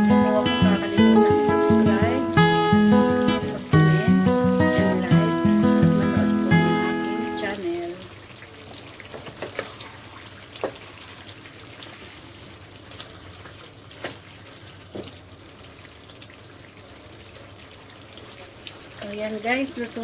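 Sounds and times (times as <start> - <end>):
stew sizzling in a pan: 0.0 - 20.0.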